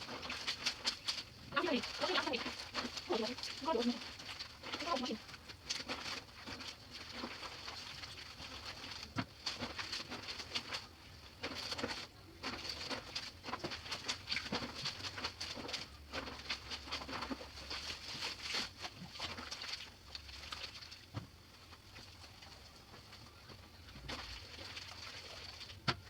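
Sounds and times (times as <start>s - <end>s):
fabric being rubbed and wrung: 0.0s - 20.9s
water splashing in a basin: 0.0s - 26.0s.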